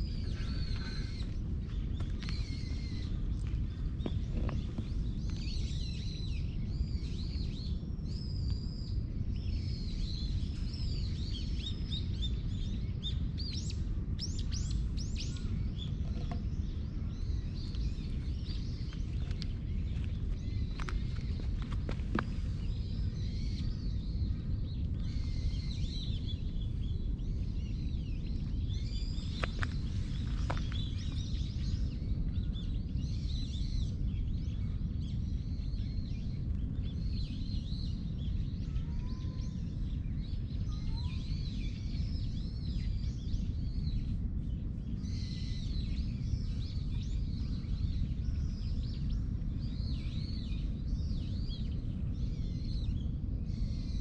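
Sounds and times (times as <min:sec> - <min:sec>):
low outdoor rumble: 0:00.0 - 0:54.0
small birds chirping: 0:00.0 - 0:54.0.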